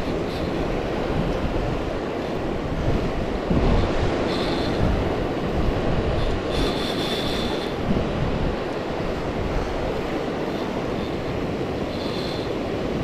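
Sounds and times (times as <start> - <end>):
surf rumble: 0.0 - 13.0
wind on microphone: 0.0 - 13.0.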